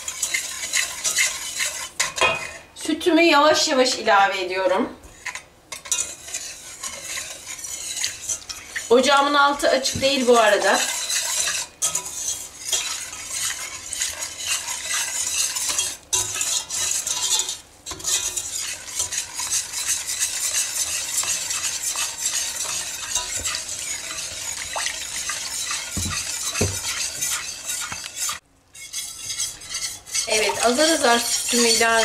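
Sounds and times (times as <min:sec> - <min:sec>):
whisk scraping metal pot: 0:00.0 - 0:02.9, 0:05.0 - 0:32.0.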